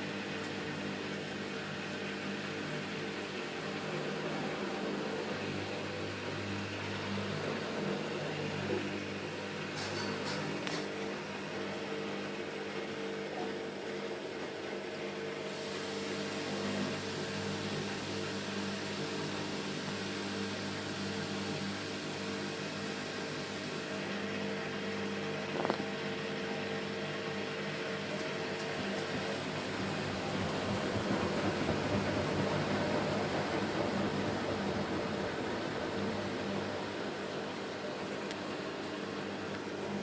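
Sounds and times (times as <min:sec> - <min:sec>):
washing machine spinning: 0:00.0 - 0:40.0.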